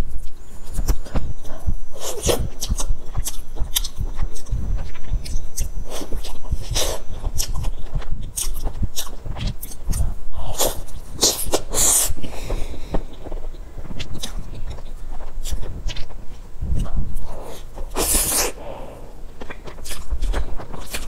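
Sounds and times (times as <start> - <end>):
wet chewing and lip smacks: 0.7 - 21.0.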